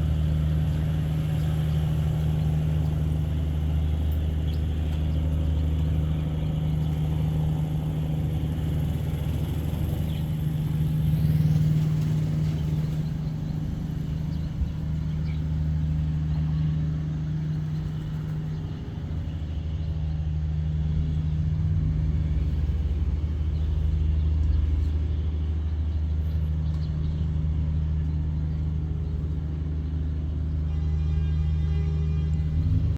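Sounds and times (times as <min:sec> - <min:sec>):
boat engine low drone: 0:00.0 - 0:32.9.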